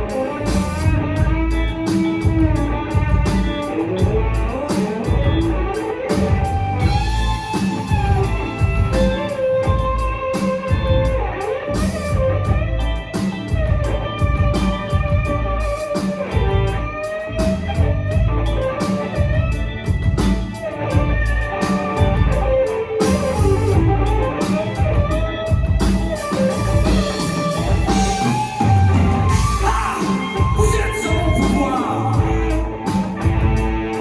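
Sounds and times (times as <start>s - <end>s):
bass: 0.0s - 34.0s
drums: 0.0s - 34.0s
guitar melody: 0.0s - 34.0s.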